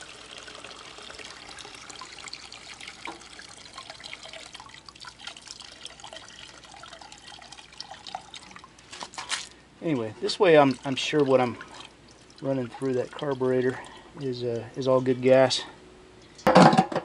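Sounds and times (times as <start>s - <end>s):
fuel splashing and trickling: 0.0s - 15.5s.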